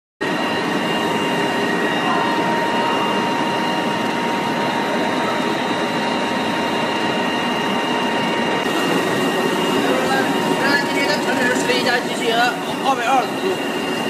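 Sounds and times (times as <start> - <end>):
printing machine whining: 0.2 - 14.0.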